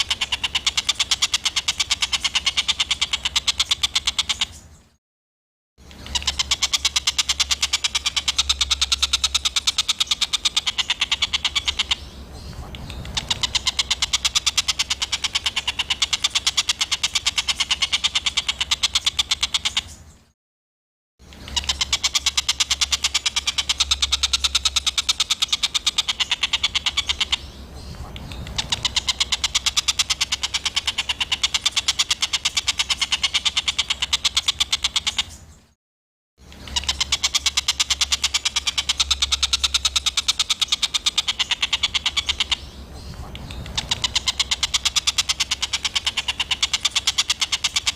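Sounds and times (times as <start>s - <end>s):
songbird chattering calls: 0.0s - 5.0s, 5.8s - 20.1s, 21.2s - 35.5s, 36.4s - 47.9s.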